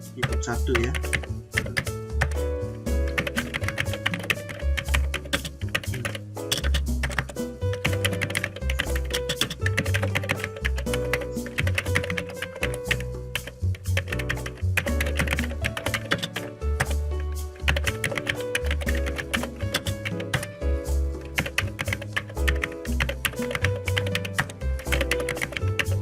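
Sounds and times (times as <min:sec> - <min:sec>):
background music with bass line: 0:00.0 - 0:26.0.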